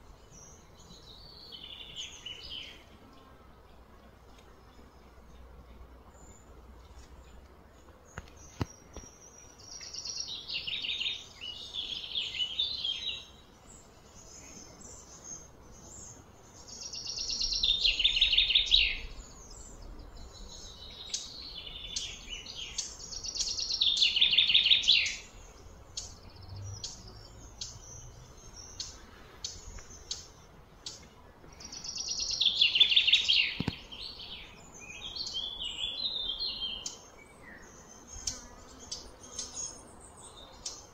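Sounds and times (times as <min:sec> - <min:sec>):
bird chirps: 0:08.1 - 0:40.9.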